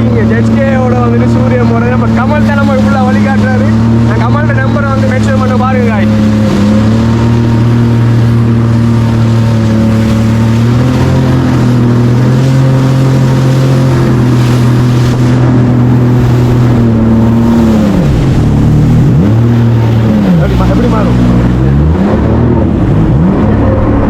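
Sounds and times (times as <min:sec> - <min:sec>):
jet ski engine running: 0:00.0 - 0:24.0.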